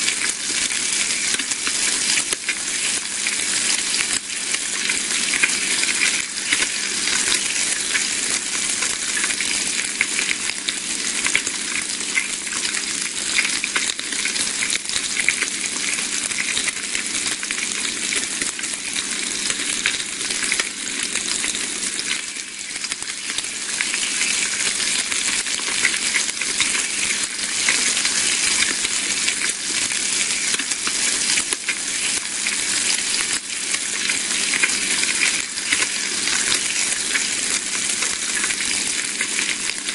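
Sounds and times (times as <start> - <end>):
bacon sizzling in a frying pan: 0.0 - 39.9.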